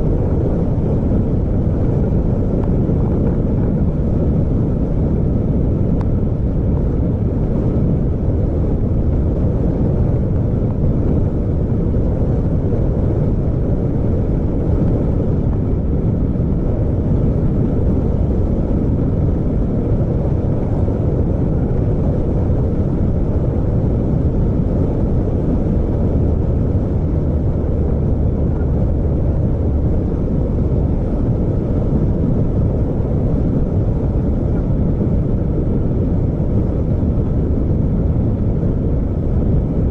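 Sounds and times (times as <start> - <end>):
vehicle driving along a road: 0.0 - 39.9.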